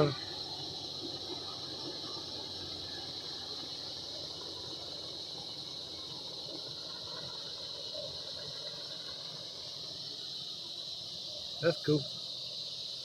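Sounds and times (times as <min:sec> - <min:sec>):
helicopter rumble: 0:00.0 - 0:12.9
cicadas buzzing: 0:00.0 - 0:13.0.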